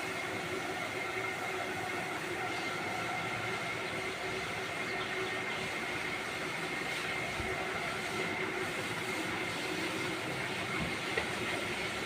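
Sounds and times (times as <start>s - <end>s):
mechanical drone with whining tones: 0.0s - 12.0s.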